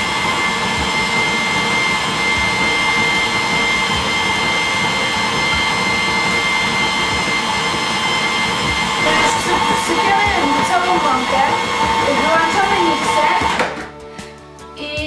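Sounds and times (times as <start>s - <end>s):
electric mixer whirring: 0.0s - 13.9s.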